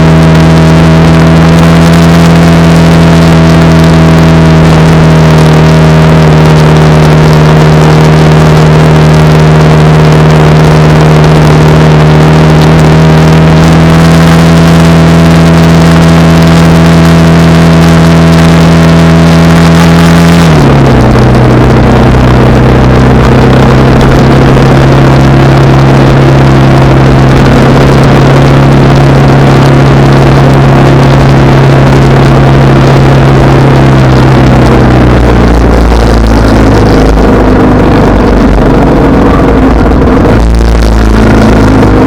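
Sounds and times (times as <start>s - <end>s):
motorcycle engine cruising: 0.0s - 42.0s
wind rush on microphone: 0.0s - 42.0s.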